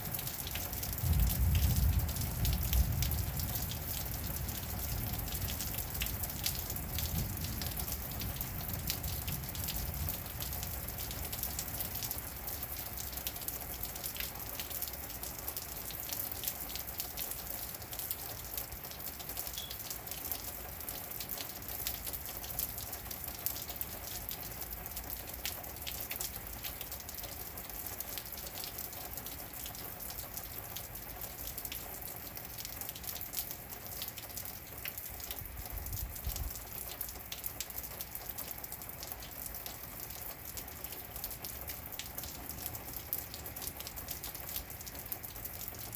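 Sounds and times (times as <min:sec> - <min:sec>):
raindrops ticking on hard surfaces: 0:00.0 - 0:45.9
steady rain falling: 0:00.0 - 0:45.9.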